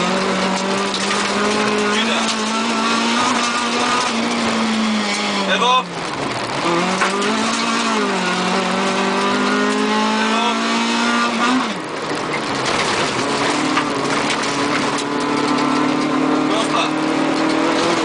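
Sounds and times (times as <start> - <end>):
car engine revving: 0.0 - 18.0
road noise: 0.0 - 18.0.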